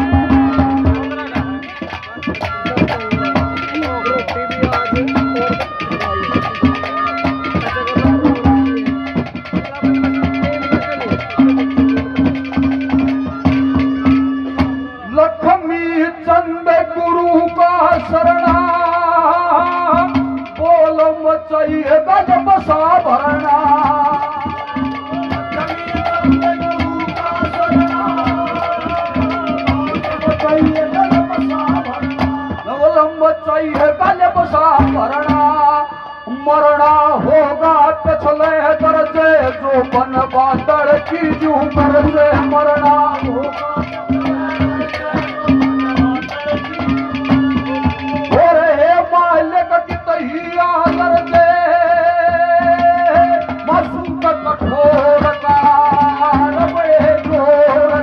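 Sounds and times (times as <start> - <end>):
person singing: 0.0 - 58.0
rhythmic hand drum strokes: 0.0 - 58.0
sustained bending melody line: 0.0 - 58.0.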